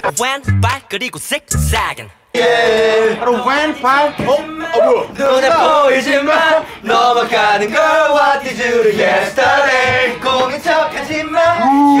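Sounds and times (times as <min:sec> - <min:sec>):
men singing and chanting: 0:01.6 - 0:12.0.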